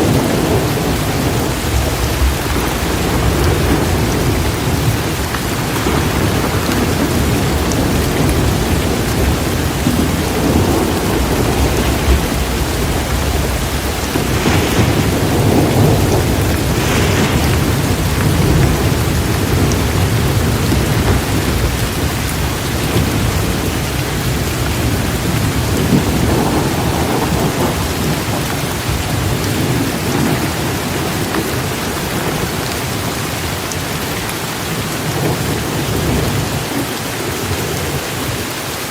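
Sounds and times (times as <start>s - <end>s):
deep thunder rumbling: 0.0s - 38.4s
heavy rain pouring: 0.0s - 38.9s.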